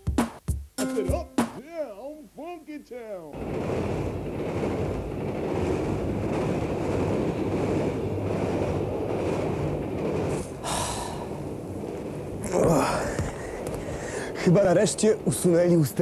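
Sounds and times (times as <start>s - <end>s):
train running on track: 2.5s - 16.0s.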